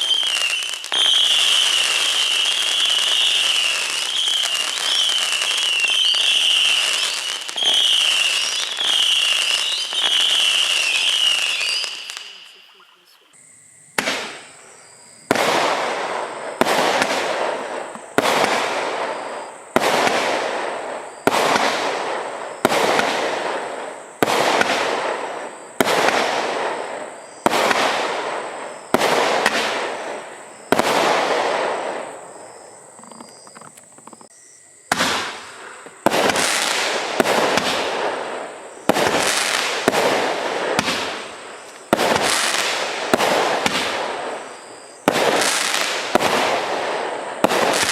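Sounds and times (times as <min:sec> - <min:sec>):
firework barrage firing: 0:00.0 - 0:13.2, 0:13.9 - 0:32.4, 0:34.9 - 0:47.9.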